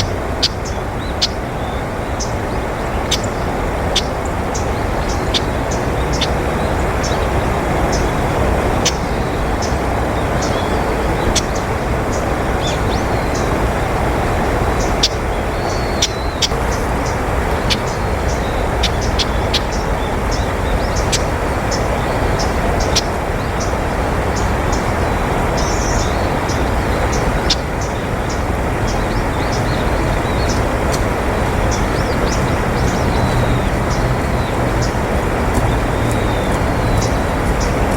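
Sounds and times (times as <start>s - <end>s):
low rushing background noise: 0.0s - 37.9s
small birds chirping: 0.0s - 37.9s.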